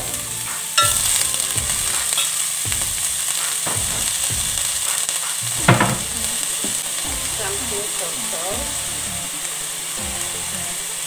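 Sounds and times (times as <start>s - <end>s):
cabbage sizzling in hot oil: 0.0s - 11.0s.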